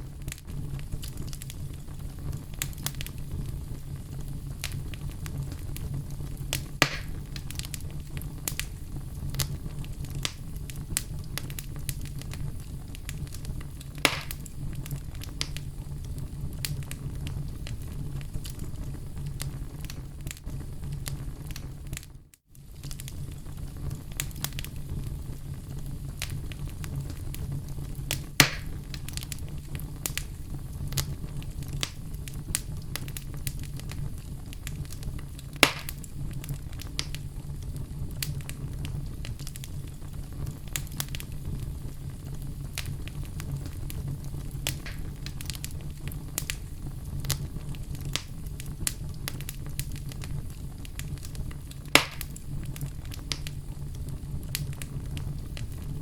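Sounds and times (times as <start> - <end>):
logs crackling in fireplace: 0.0 - 56.0
loud fire pops: 0.0 - 56.0.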